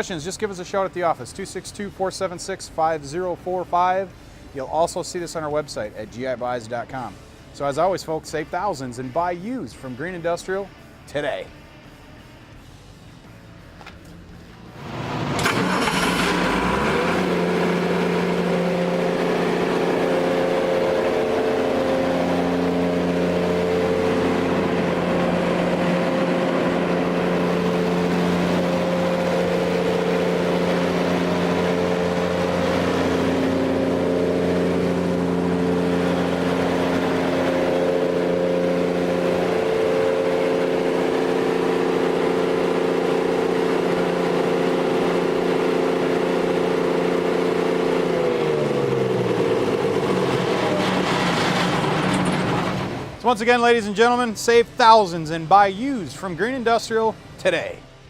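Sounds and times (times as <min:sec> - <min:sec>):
diesel generator engine running: 0:00.0 - 0:11.0, 0:12.6 - 0:58.0.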